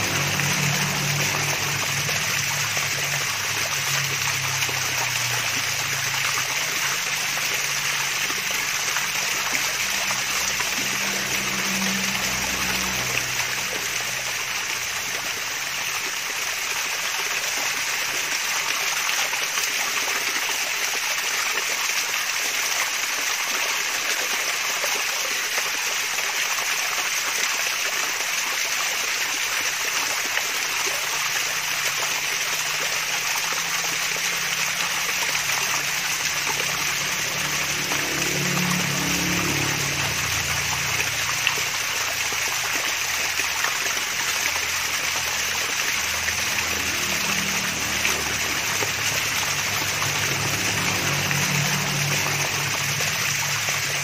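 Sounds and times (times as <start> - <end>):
small waterfall trickling and splashing: 0.0 - 54.0.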